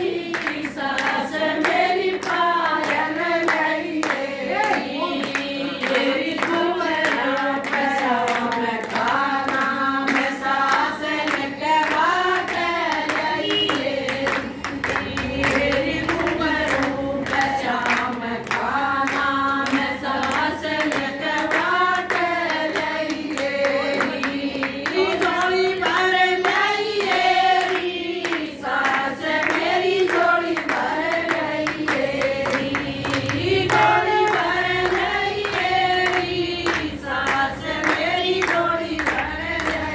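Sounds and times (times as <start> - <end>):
rhythmic hand-clapping: 0.0 - 39.9
women singing together: 0.0 - 39.9.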